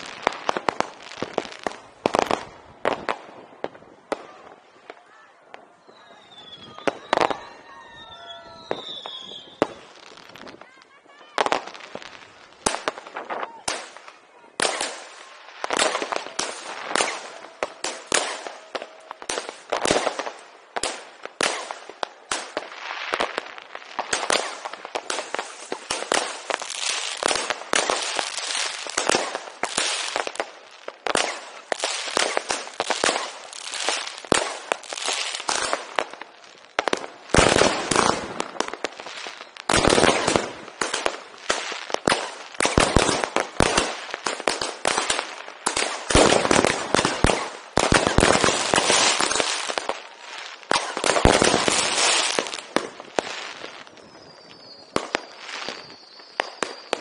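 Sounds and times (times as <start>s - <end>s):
firecrackers and fireworks banging: 0.0s - 57.0s.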